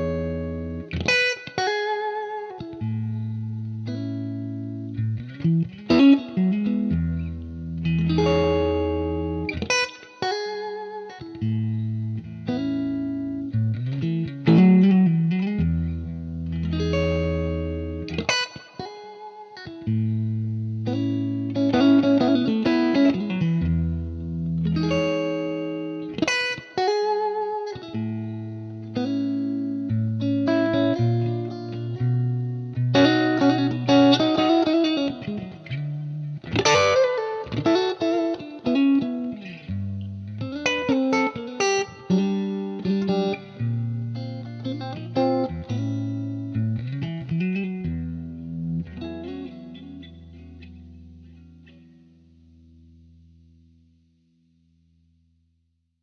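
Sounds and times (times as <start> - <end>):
electric guitar music with effects: 0.0 - 55.0.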